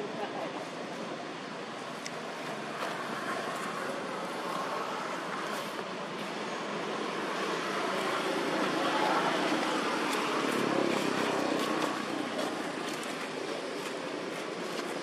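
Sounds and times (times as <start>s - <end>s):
outdoor background hiss: 0.0s - 15.0s
vehicle passing: 2.3s - 15.0s.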